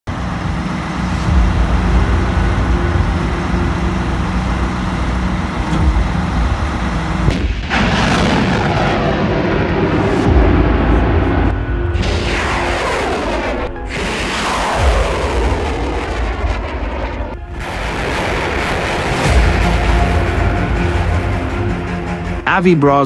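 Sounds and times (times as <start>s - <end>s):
truck engine running: 0.0s - 23.0s
rocket launching roar: 0.1s - 22.2s.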